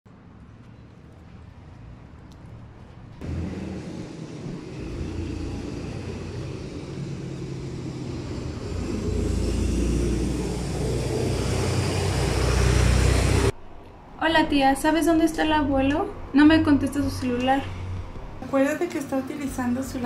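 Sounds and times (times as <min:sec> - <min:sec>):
low rumble of street traffic: 0:00.1 - 0:20.0.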